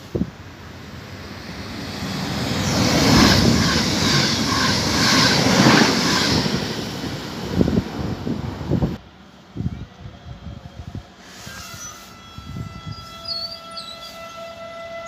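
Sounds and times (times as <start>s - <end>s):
electric train passing at speed: 0.0s - 15.0s.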